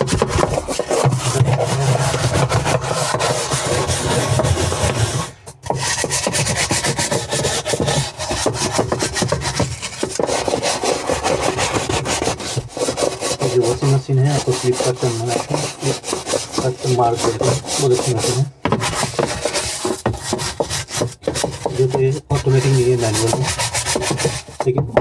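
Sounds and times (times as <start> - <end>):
stiff brush scrubbing: 0.0 - 25.0.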